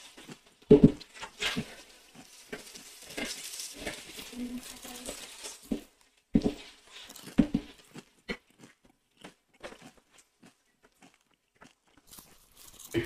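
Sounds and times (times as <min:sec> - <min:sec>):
bones crunching while chewing: 0:00.0 - 0:13.0.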